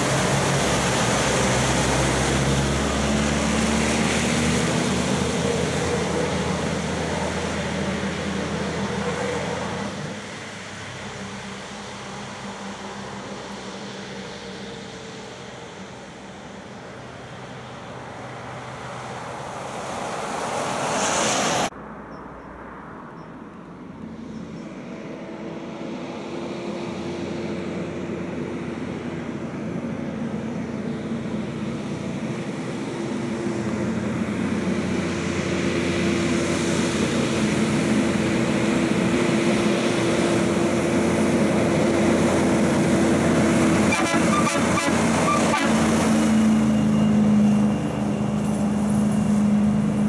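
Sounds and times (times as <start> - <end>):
tyres hissing on wet road: 0.0 - 21.7, 25.8 - 50.0
truck diesel engine: 0.0 - 50.0.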